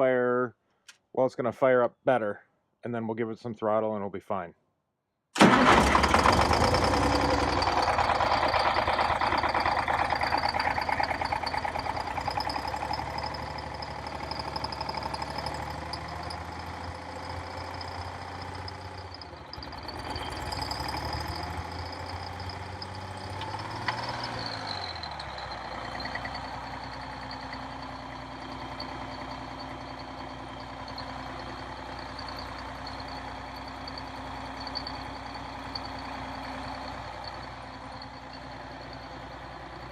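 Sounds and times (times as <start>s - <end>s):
diesel engine running unevenly: 5.4s - 39.9s.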